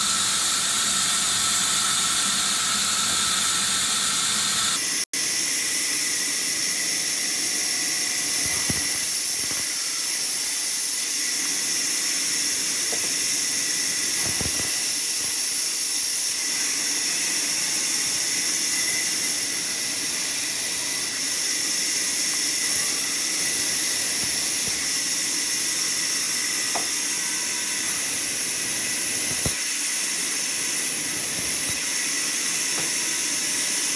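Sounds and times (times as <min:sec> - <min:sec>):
bandsaw cutting wood: 0:06.0 - 0:33.9.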